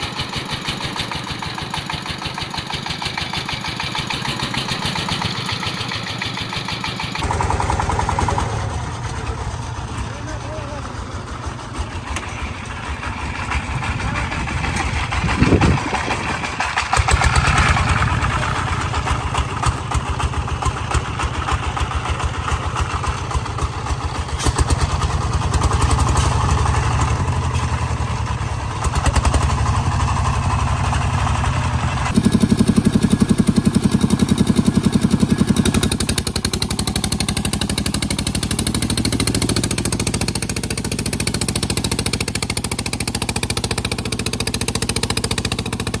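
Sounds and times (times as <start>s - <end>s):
tractor diesel engine chugging: 0.0s - 46.0s.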